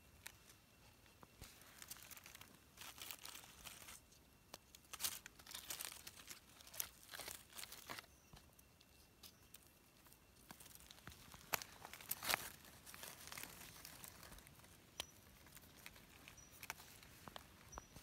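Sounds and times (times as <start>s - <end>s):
dry leaves crackling and rustling: 1.2s - 4.0s, 4.6s - 8.1s, 9.5s - 18.0s.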